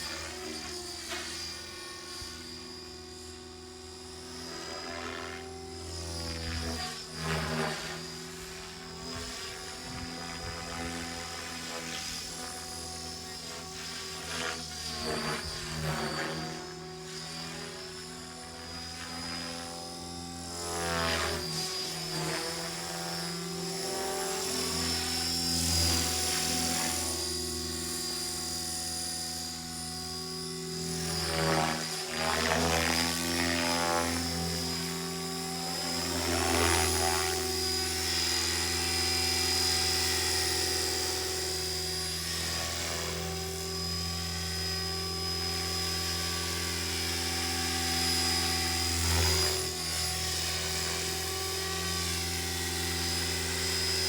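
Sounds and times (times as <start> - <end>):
model helicopter rotor and motor whine: 0.0 - 54.0.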